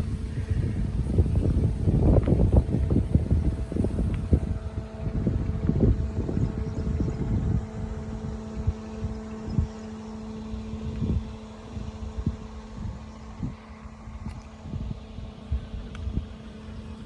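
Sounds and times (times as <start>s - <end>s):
motor humming: 0.0s - 17.0s
wind gusting on microphone: 0.0s - 17.0s.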